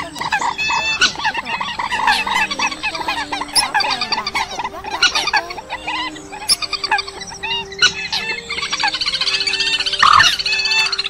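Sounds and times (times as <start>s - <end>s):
coot calls: 0.0s - 11.0s
rapidly repeated high bird notes: 0.0s - 11.0s.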